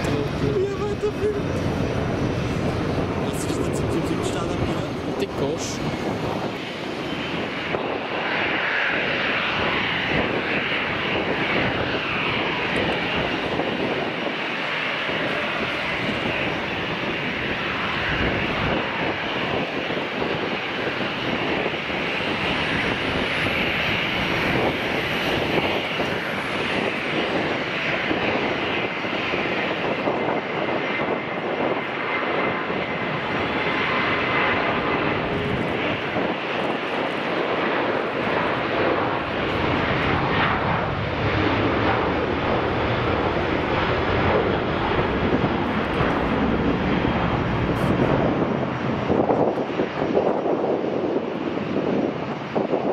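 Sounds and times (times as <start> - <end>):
jet engines at high power: 0.0 - 52.9.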